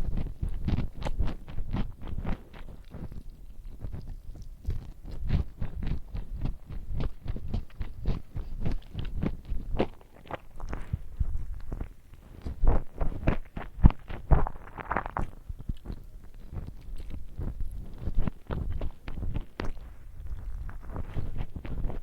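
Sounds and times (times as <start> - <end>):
chewing and biting food: 0.0 - 22.0.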